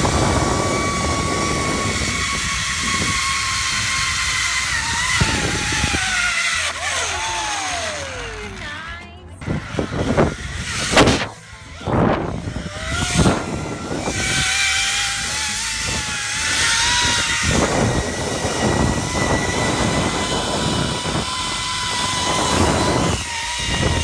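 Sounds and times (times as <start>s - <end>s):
wind rushing across microphone: 0.0s - 6.2s, 9.4s - 24.0s
zip-line pulleys whining on cable: 0.0s - 24.0s.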